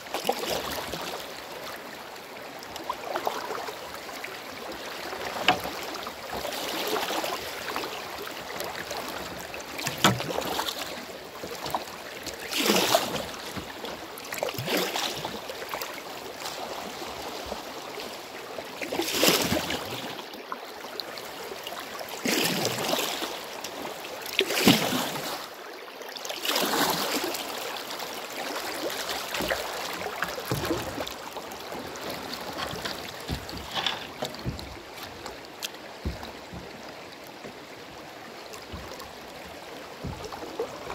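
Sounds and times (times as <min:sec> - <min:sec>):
water splashing: 0:00.0 - 0:40.9.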